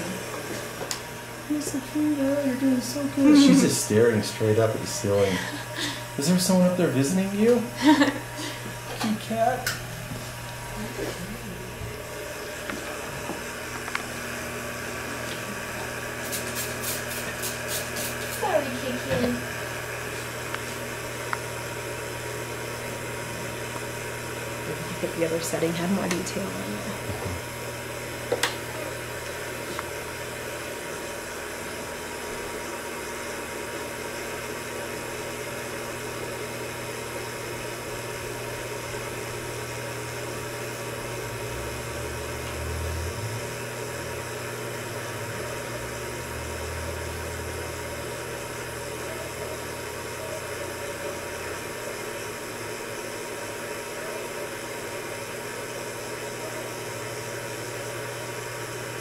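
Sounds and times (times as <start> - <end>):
equipment hum and hiss: 0.0 - 59.0.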